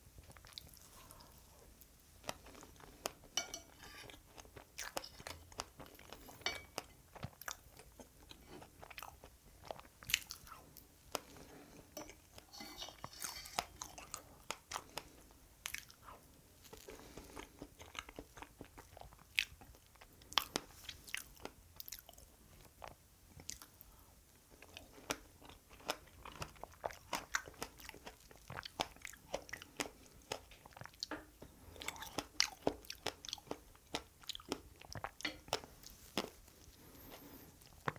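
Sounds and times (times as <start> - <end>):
chewing and biting cake: 2.2 - 12.5, 13.6 - 23.8, 24.5 - 37.9.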